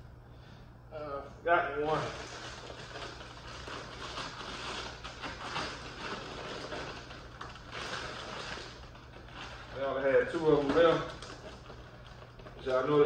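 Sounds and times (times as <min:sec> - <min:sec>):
low steady hum: 0:00.0 - 0:13.0
plastic bags crinkling: 0:01.9 - 0:13.0.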